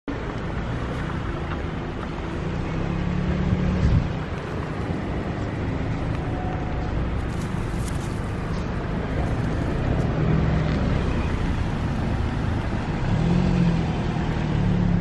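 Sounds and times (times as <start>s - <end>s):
road traffic rumble: 0.1s - 15.0s
vehicle passing: 0.3s - 15.0s.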